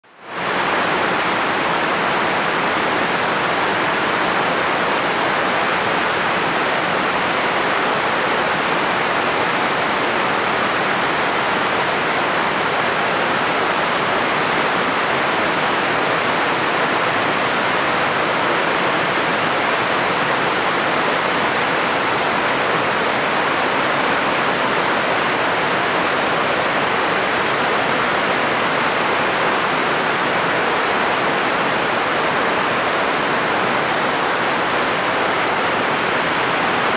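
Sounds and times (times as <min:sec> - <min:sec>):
rain falling steadily: 0:00.1 - 0:36.9.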